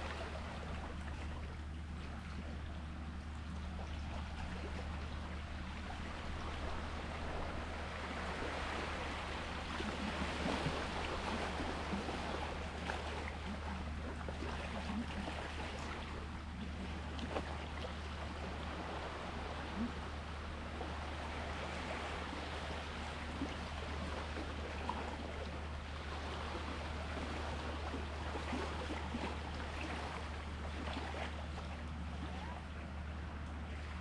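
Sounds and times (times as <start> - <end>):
constant low rumble: 0.0 - 34.0
sea water lapping and splashing: 0.0 - 34.0.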